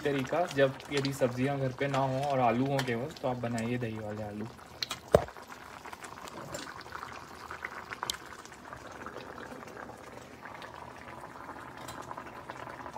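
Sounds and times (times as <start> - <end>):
curry bubbling at a simmer: 0.0 - 12.9.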